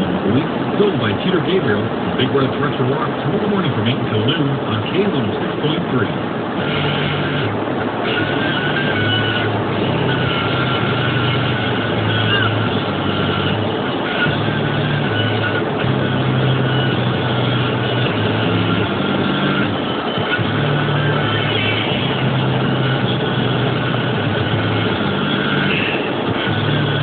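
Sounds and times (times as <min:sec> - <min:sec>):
car road and engine noise: 0:00.0 - 0:27.0
radio music: 0:00.0 - 0:27.0.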